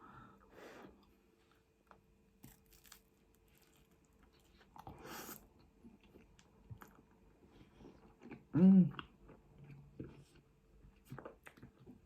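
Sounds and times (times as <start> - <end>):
faint chewing: 1.0 - 12.0.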